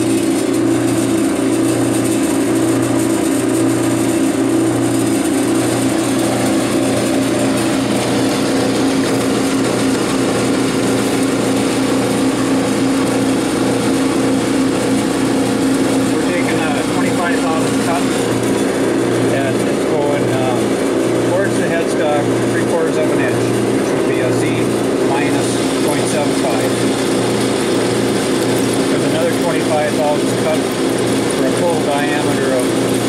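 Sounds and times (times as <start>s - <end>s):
lathe motor humming: 0.0s - 33.0s.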